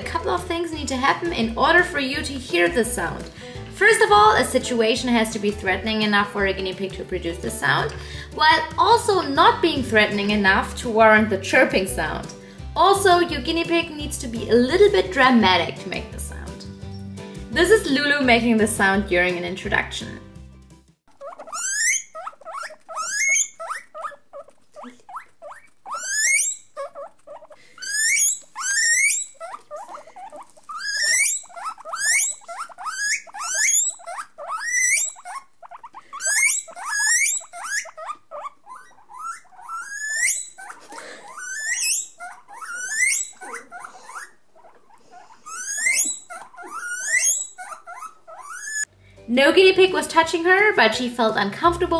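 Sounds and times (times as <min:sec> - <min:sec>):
guinea pig squealing: 0:00.0 - 0:17.0, 0:21.1 - 0:48.9.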